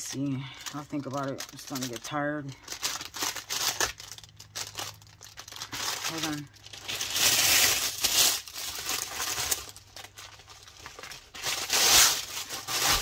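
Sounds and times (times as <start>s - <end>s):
packaging wrap crackling: 0.0s - 13.0s.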